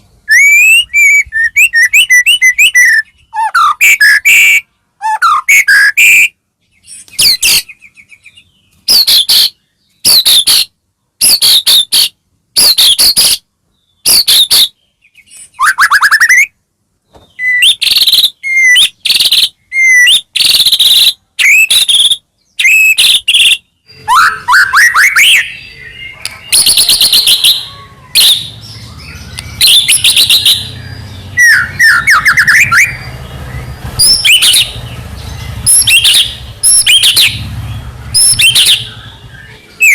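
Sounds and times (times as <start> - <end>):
songbird whistling and chattering: 0.2 - 16.6, 17.2 - 39.9.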